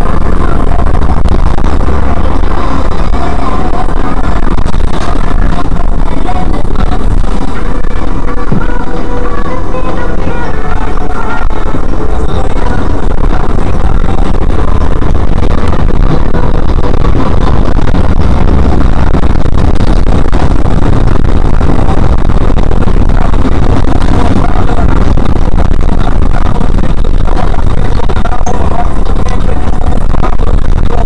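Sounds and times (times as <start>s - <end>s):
engine rumble: 0.0s - 31.0s
road noise: 0.0s - 31.0s.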